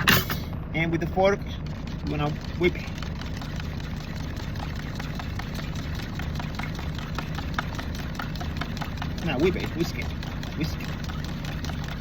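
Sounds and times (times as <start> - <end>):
fork whisking eggs in a cup: 0.9 - 12.0.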